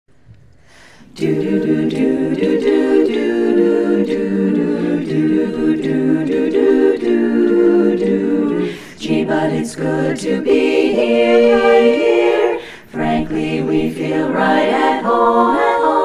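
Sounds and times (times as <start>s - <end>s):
women's chorus singing: 1.0s - 16.0s.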